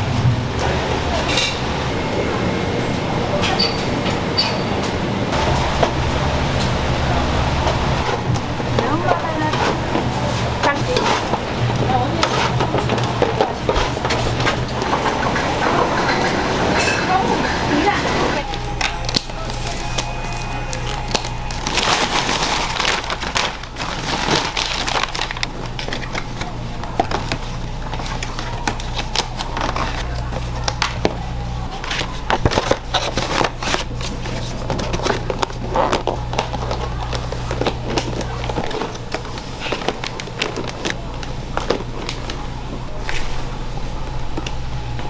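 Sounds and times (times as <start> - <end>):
equipment hum: 0.0 - 45.0.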